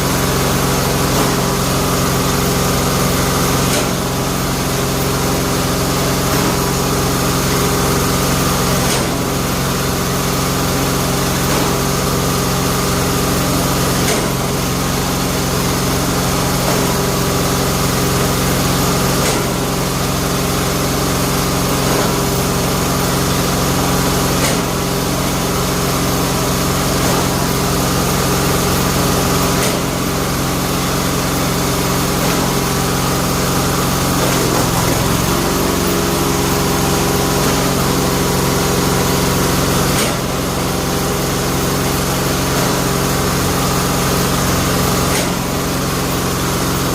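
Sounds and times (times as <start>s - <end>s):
bamboo splitting machine running: 0.0s - 46.9s.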